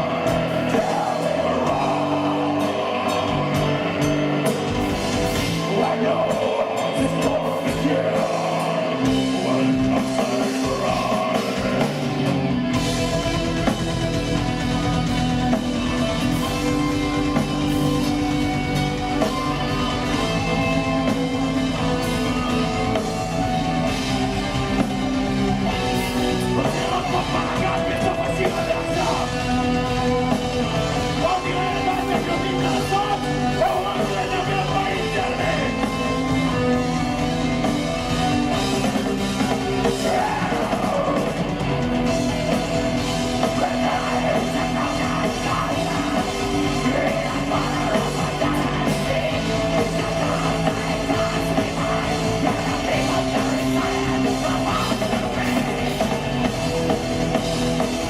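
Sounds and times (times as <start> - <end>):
metal band playing: 0.0 - 58.0.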